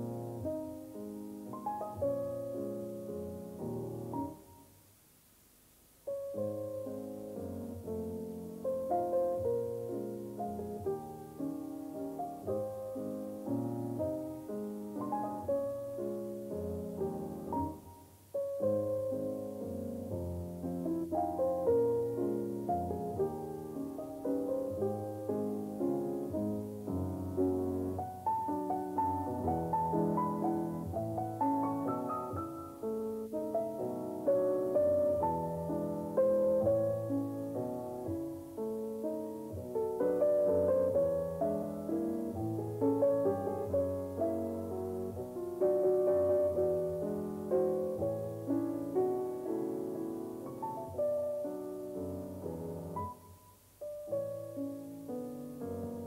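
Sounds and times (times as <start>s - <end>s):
piano melody over chords: 0.0s - 4.8s, 5.8s - 56.0s.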